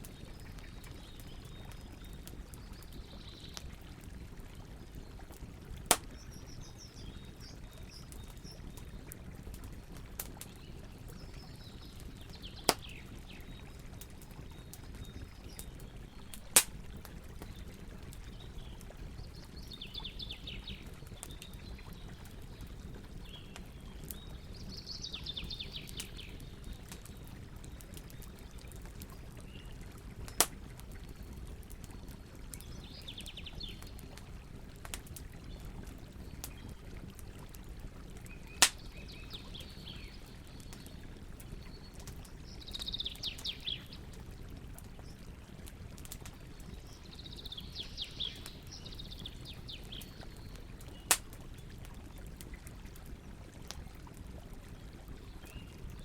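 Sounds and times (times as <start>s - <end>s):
campfire hissing and popping: 0.0s - 56.0s.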